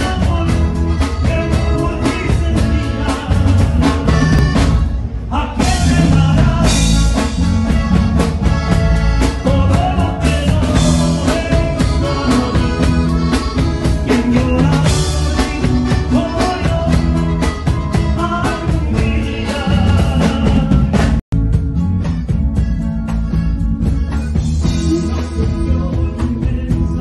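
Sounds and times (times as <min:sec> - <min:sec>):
bass guitar with heavy low end: 0:00.0 - 0:27.0
drum kit: 0:00.0 - 0:27.0
electric guitar: 0:00.0 - 0:27.0.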